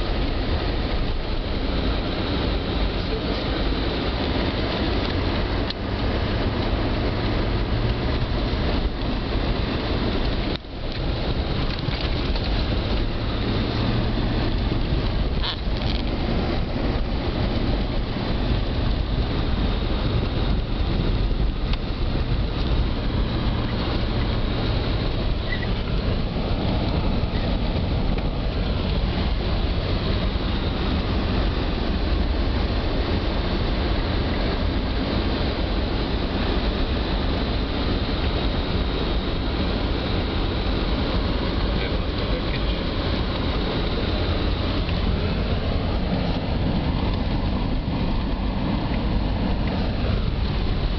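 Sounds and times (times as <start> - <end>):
car engine and tyre rumble: 0.0 - 50.9
road noise hiss: 0.0 - 50.9.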